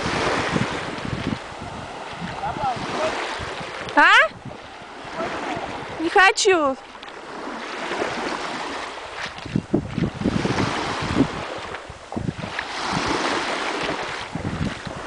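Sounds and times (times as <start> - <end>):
small sea waves washing: 0.0 - 15.0
wind buffeting microphone: 0.0 - 15.0.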